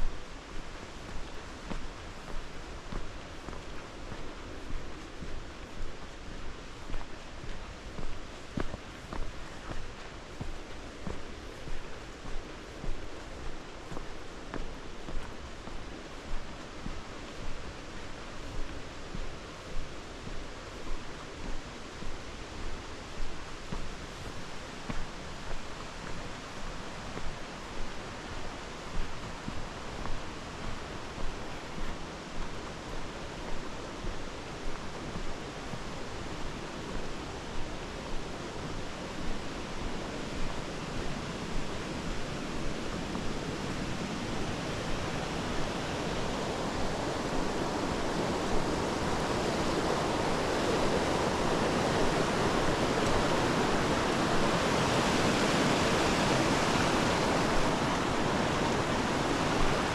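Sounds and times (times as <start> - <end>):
creek water rushing: 0.0 - 59.9
footsteps on a trail: 0.0 - 59.9.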